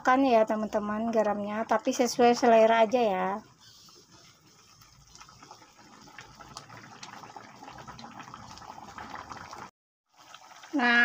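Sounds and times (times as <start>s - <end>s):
thick sauce bubbling and popping: 2.0s - 11.0s.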